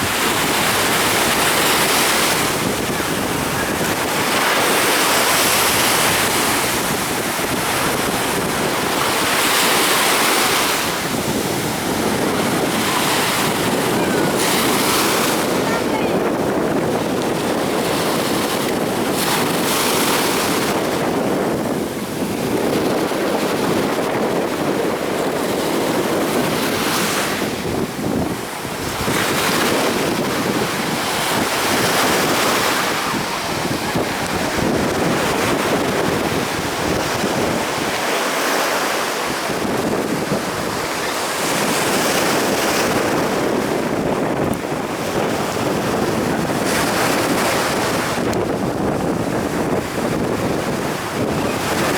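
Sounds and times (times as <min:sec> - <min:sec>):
heavy waves crashing: 0:00.0 - 0:51.9
wind buffeting microphone: 0:00.0 - 0:51.9.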